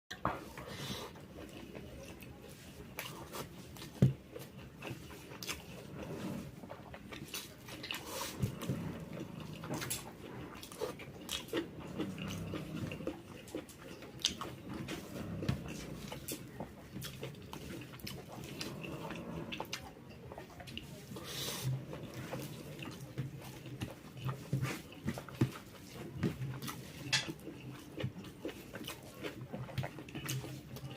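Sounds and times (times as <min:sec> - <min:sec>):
wet chewing and lip smacks: 0:01.1 - 0:30.9.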